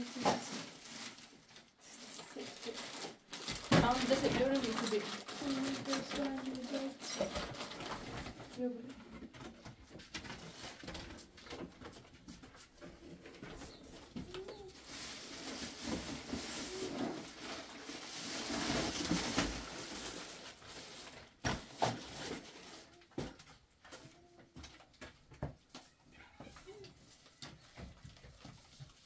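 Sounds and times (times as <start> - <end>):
plastic bag rustling: 0.0 - 23.6.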